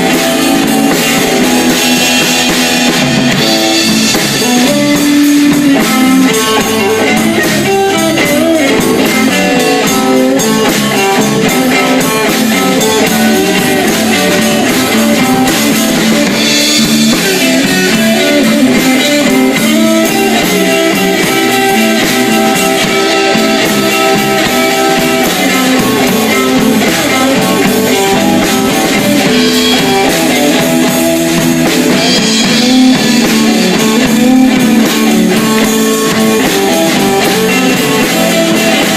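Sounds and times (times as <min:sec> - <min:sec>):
electric guitar lead: 0:00.0 - 0:38.9
live blues band playing: 0:00.0 - 0:38.9.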